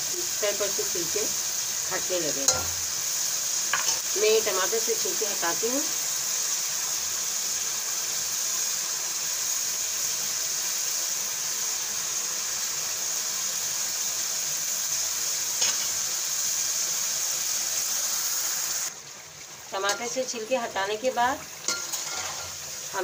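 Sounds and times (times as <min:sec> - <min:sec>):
pot simmering with sizzling hiss: 0:00.0 - 0:23.0.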